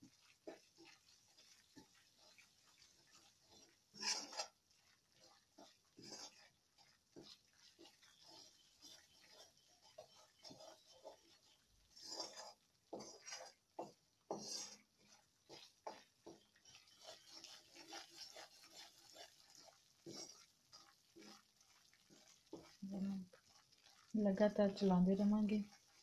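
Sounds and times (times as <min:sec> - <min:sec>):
metal spoon scraping pan: 0:00.0 - 0:24.1.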